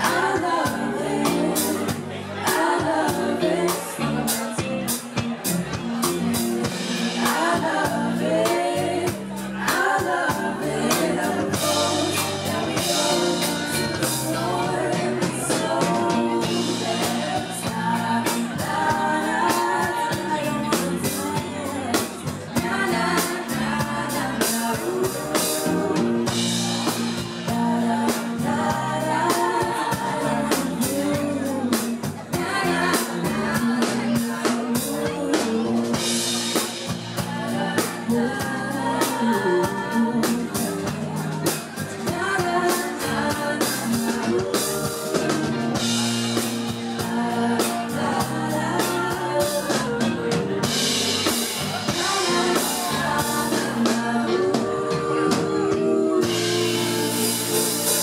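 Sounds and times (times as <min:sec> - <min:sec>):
women singing: 0:00.0 - 0:05.0, 0:06.0 - 0:58.0
drum kit: 0:00.0 - 0:58.0
electric bass: 0:00.0 - 0:58.0.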